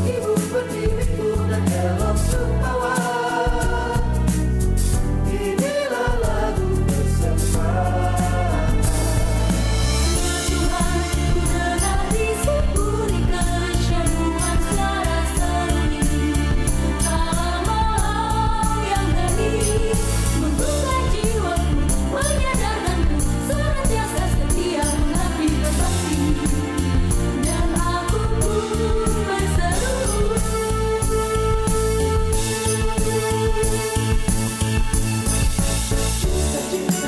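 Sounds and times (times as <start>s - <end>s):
mixed choir singing: 0.1s - 4.6s, 5.2s - 31.2s, 36.4s - 37.0s.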